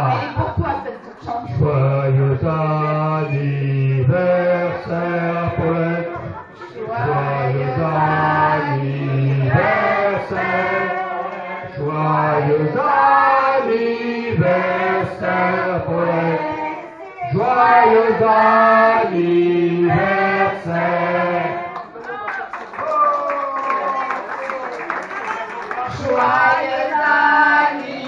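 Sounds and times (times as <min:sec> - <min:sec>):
group singing into microphones: 0:01.4 - 0:22.0, 0:25.8 - 0:28.0.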